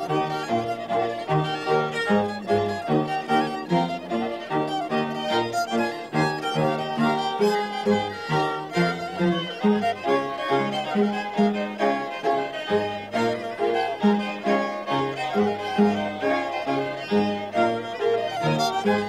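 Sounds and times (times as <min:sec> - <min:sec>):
fiddles playing folk music: 0:00.0 - 0:19.0.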